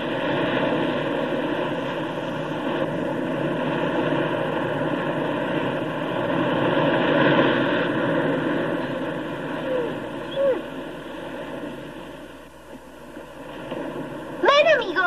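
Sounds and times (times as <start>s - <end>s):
surf breaking on pebbly shore: 0.0s - 15.0s.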